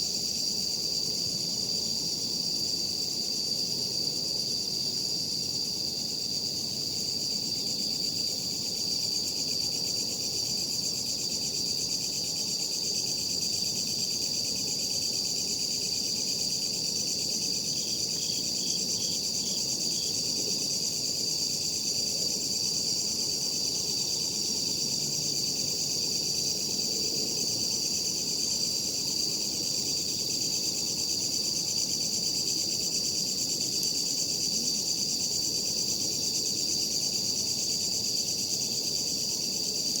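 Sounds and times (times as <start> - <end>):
crickets trilling: 0.0 - 40.0
insect chirps: 0.0 - 40.0.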